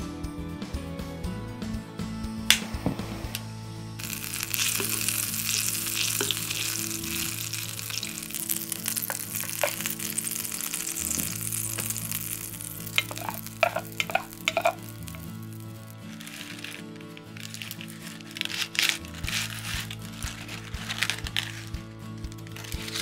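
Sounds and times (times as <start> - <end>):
butter and garlic sizzling: 4.0 - 23.0
wooden spoon stirring: 4.0 - 23.0.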